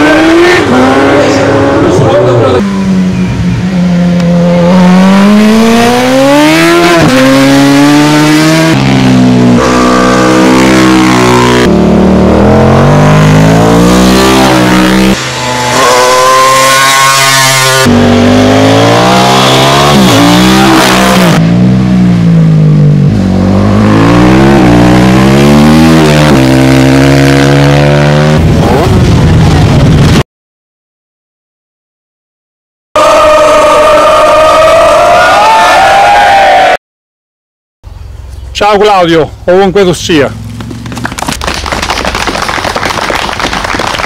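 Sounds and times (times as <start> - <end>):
racing motorcycles passing: 0.0 - 29.6, 33.0 - 36.8, 40.0 - 44.0.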